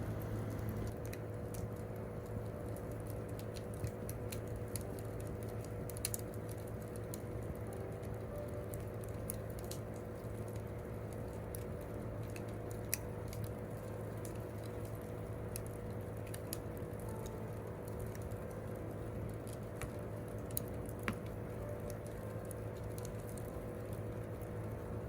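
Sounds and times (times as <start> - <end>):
campfire crackling and popping: 0.0 - 25.0
low background of burning fire: 0.0 - 25.0.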